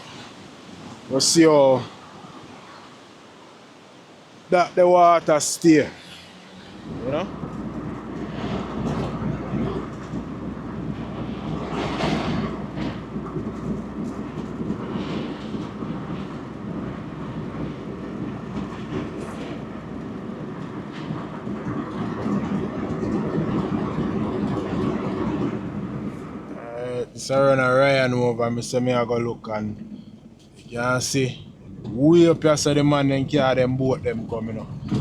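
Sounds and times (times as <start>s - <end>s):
heavy surf breaking on beach: 0.0s - 29.5s.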